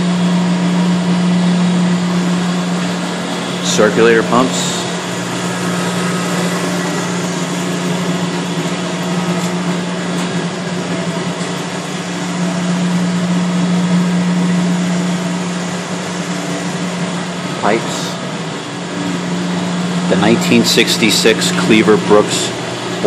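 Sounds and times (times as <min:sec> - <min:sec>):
boiler room machinery hum: 0:00.0 - 0:23.0.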